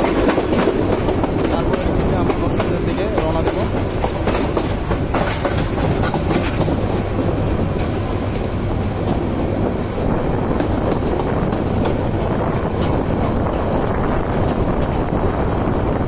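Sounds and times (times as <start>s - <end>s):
rail joint clicks and rattles: 0.0s - 16.0s
train wheels rumbling on rails: 0.0s - 16.0s.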